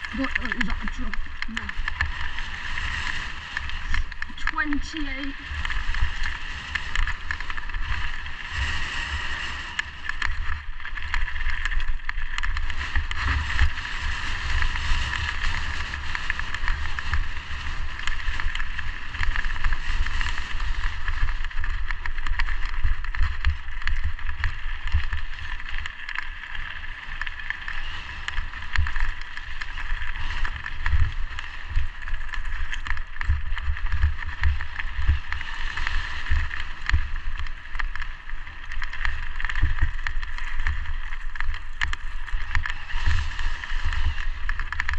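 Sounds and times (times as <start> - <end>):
tyres rolling over stones: 0.0 - 13.8, 14.4 - 44.9
bike knocking and rattling: 0.0 - 44.9
wind rushing over microphone: 0.0 - 44.9.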